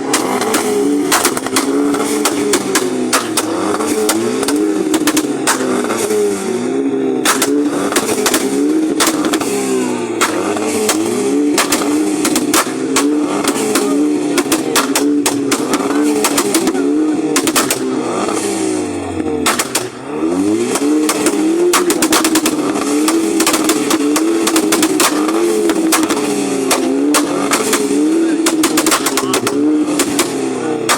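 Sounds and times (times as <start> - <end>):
car engine revving: 0.0 - 30.9
exhaust bangs and pops: 0.0 - 30.9.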